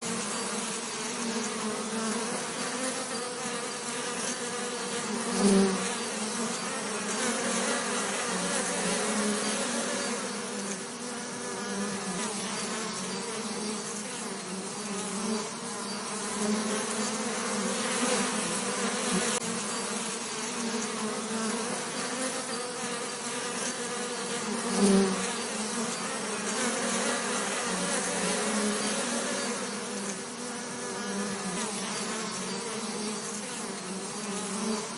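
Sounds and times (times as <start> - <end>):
bees buzzing: 0.0 - 34.9.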